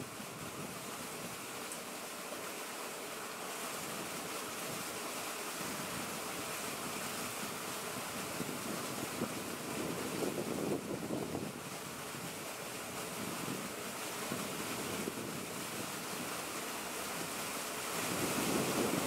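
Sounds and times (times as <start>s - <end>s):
flowing river water: 0.0s - 19.0s
wind hiss: 0.0s - 19.0s.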